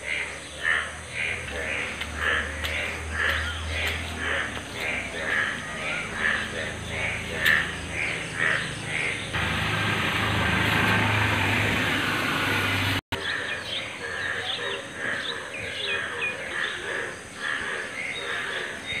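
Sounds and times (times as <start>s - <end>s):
bird calls: 0.0s - 19.0s
birds chirping: 0.0s - 19.0s.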